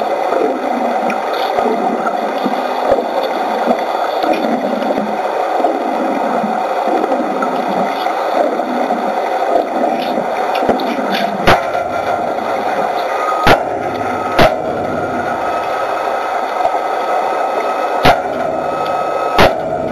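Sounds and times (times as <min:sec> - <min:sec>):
underwater bubbles hissing: 0:00.0 - 0:19.9.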